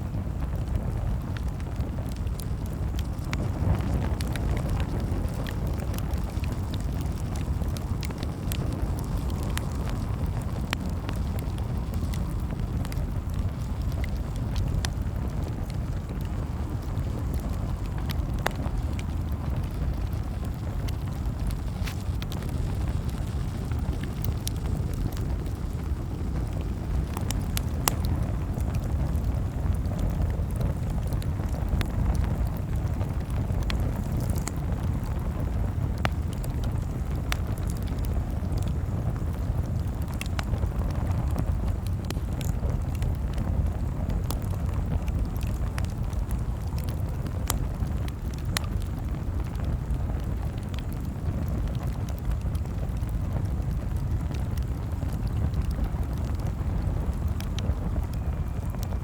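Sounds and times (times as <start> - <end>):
steady low rumble: 0.0 - 50.8
campfire crackling and popping: 0.0 - 59.0.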